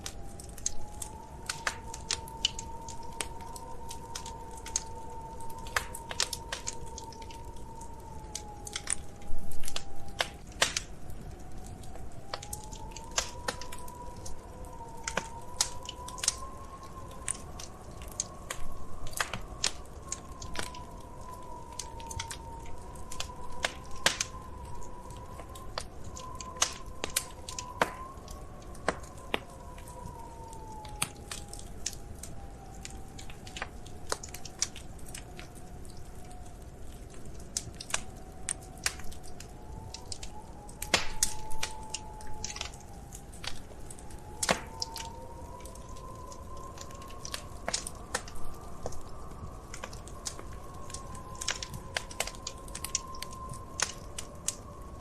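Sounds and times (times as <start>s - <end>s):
low rumble of burning fire: 0.0s - 55.0s
wood fire crackling: 0.0s - 55.0s.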